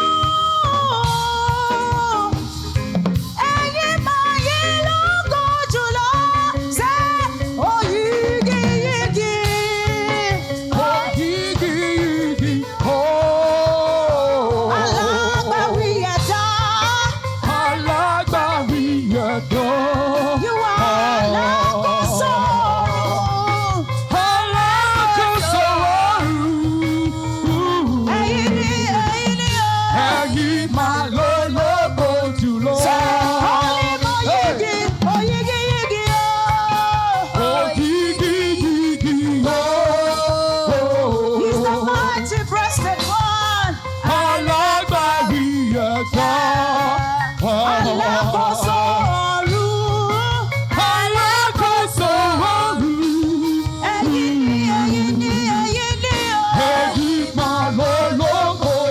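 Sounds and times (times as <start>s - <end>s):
band with bass and percussion: 0.0s - 58.9s
voices singing praise song: 0.0s - 58.9s.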